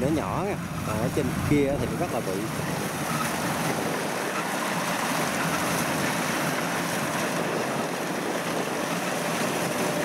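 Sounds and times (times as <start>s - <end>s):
combine harvester running: 0.0s - 10.0s
wind on microphone: 0.0s - 10.0s.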